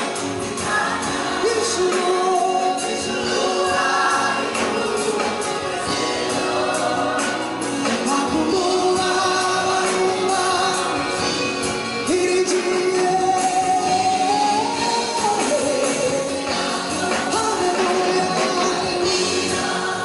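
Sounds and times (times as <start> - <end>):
choir singing: 0.0 - 20.0
instrumental backing: 0.0 - 20.0
man singing: 1.3 - 20.0.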